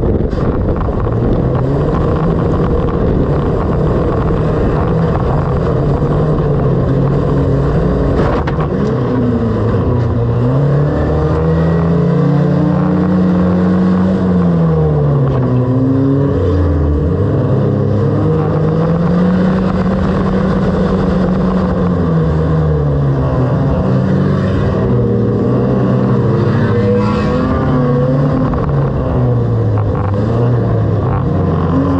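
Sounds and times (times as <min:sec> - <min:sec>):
race car engine revving: 0:00.0 - 0:31.9.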